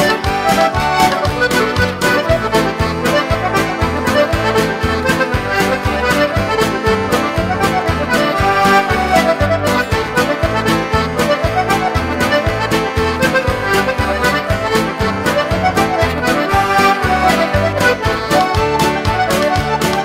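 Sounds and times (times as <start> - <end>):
steady beat: 0.0 - 20.0
traditional accordion tune: 0.0 - 20.0.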